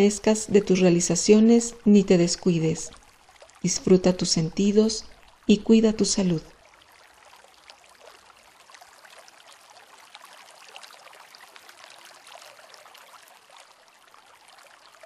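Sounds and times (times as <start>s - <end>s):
trickling water: 0.0s - 15.0s.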